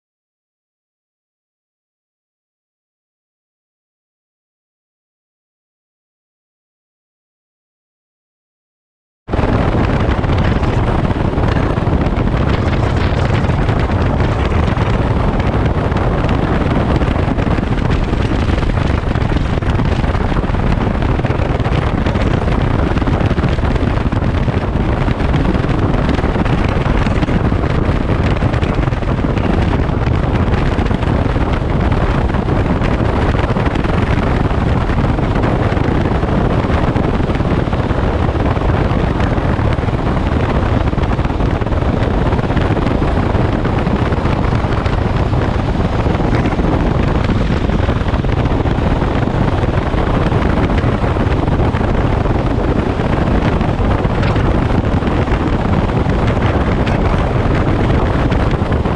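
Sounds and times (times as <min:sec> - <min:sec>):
road noise: 0:09.3 - 0:58.9
wind buffeting microphone: 0:09.3 - 0:58.9
motorcycle engine running: 0:09.4 - 0:58.9.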